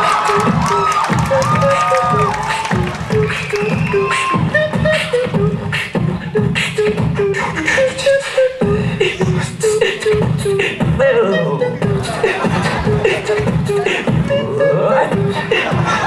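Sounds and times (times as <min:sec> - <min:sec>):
person beatboxing: 0:00.0 - 0:16.0.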